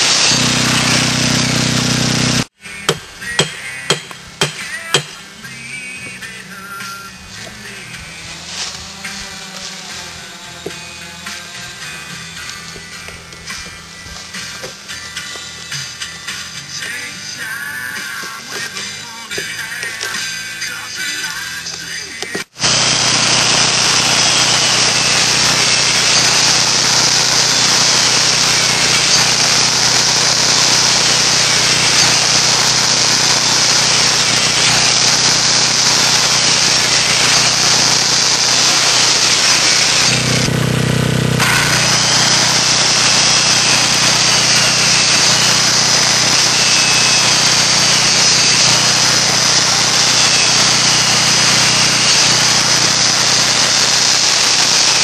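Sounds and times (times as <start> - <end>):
circular saw cutting wood: 0.0 - 55.0.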